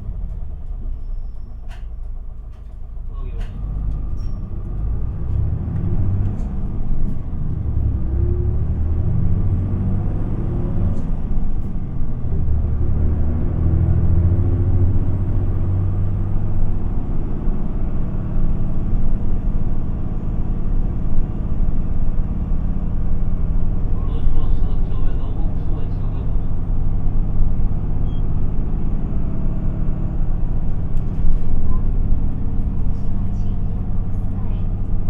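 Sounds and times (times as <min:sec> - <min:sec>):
bus diesel engine accelerating: 0:00.0 - 0:35.0
road rumble: 0:00.0 - 0:35.0.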